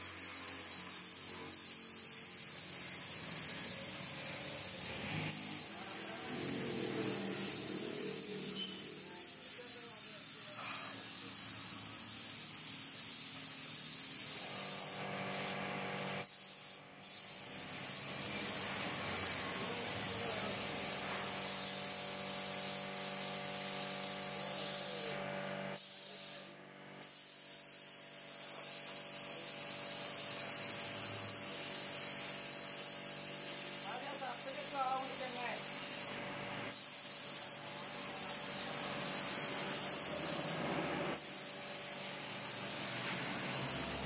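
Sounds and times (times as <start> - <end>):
paint spray gun hissing: 0.0 - 44.0.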